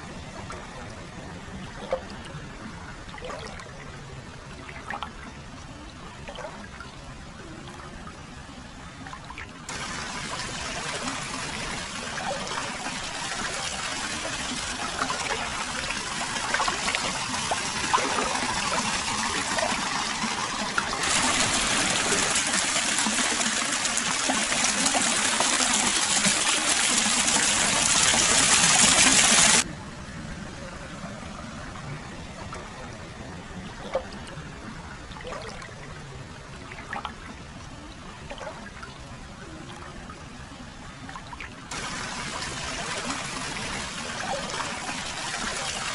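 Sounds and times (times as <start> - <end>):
water flowing and trickling: 0.0 - 45.9.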